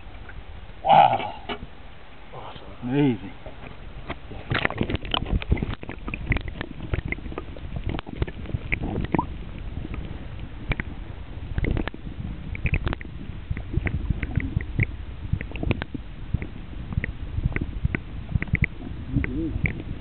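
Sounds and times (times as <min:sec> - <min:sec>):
muffled underwater sloshing: 0:00.0 - 0:20.0.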